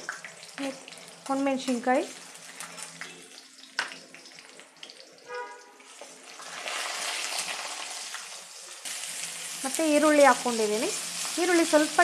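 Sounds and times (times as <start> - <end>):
chillies sizzling in hot oil: 0.0 - 12.0.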